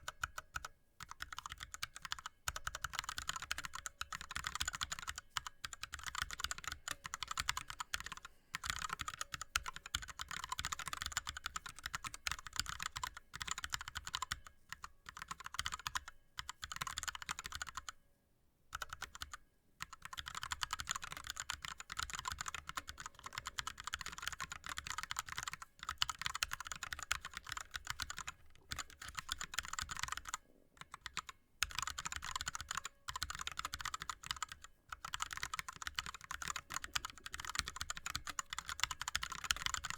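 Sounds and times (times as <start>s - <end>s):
fast typing on a keyboard: 0.0s - 18.0s, 18.8s - 39.9s.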